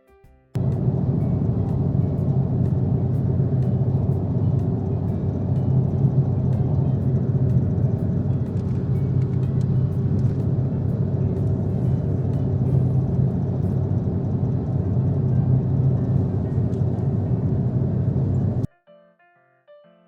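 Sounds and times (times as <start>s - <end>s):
car engine droning: 0.6s - 18.7s.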